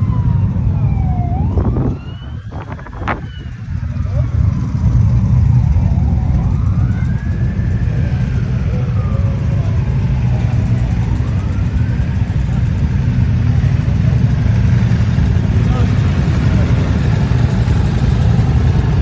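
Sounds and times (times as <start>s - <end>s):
faint siren wailing: 0.0s - 19.0s
motorcycle engines rumbling: 0.0s - 19.0s.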